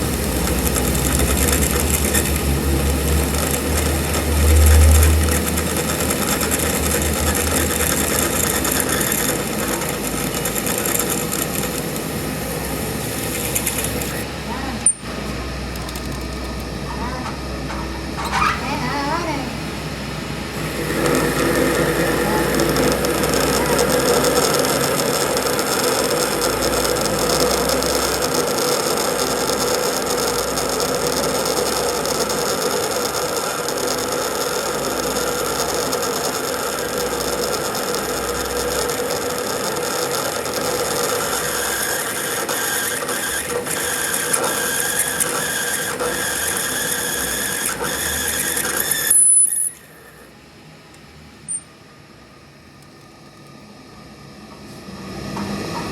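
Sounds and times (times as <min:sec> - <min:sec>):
workshop machine whining: 0:00.0 - 0:55.9.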